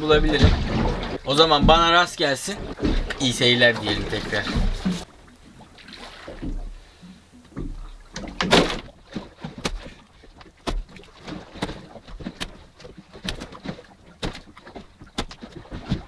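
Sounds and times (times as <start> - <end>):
water splashing around boat: 0.0 - 16.0.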